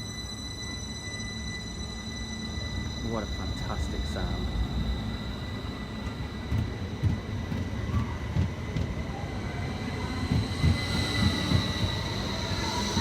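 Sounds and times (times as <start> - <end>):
low train rumble: 0.0 - 13.0.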